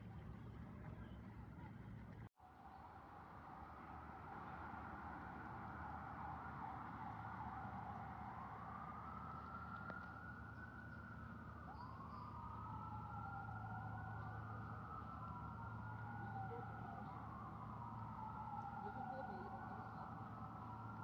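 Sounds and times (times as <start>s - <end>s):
emergency vehicle siren wailing: 2.4s - 21.0s.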